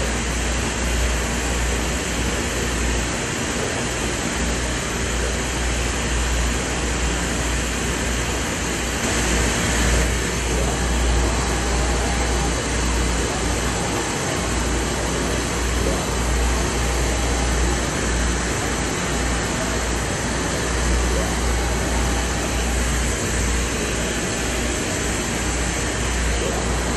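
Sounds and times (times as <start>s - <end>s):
printer mechanical whir and hiss: 0.0s - 26.9s.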